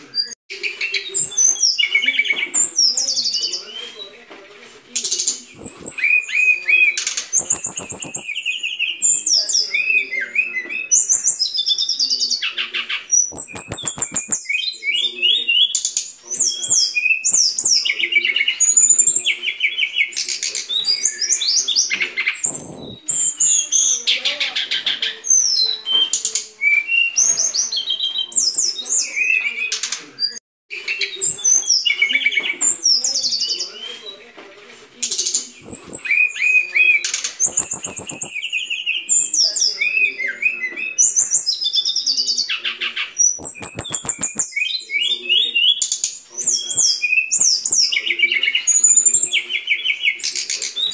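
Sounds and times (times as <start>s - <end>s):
bird singing whistles and trills: 0.0s - 4.0s, 5.0s - 34.2s, 35.1s - 50.9s.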